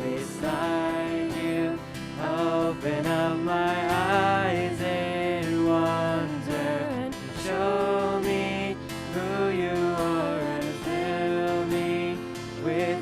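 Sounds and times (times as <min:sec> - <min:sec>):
guitar and keyboard accompaniment: 0:00.0 - 0:13.0
voices singing praise song: 0:00.0 - 0:13.0.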